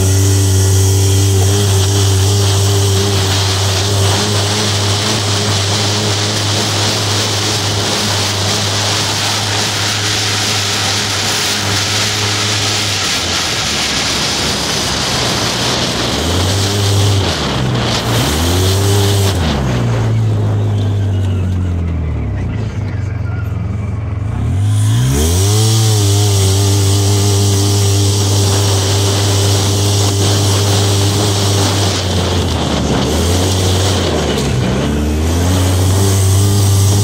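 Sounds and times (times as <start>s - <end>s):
engine revving high: 0.0s - 22.4s, 24.1s - 37.0s
wind noise: 0.0s - 23.0s, 24.3s - 37.0s.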